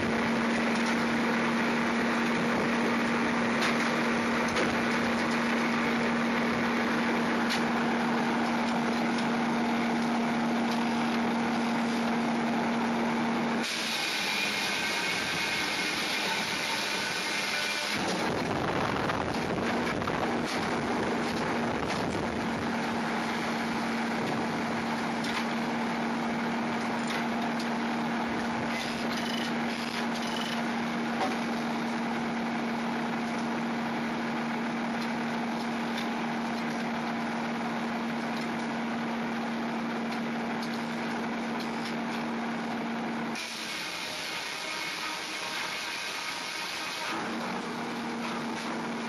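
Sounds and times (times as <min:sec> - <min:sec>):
steady hum: 0:00.0 - 0:46.2
sawmill machinery running: 0:00.0 - 0:49.0.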